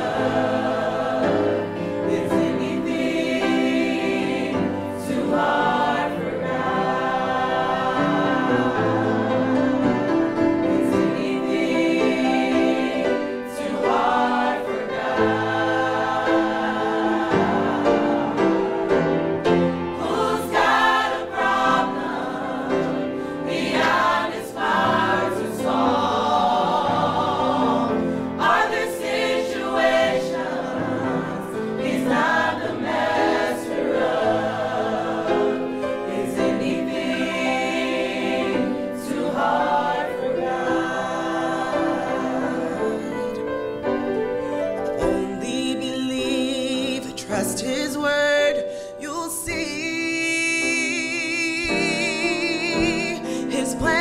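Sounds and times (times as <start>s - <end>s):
gospel choir singing: 0.0s - 54.0s.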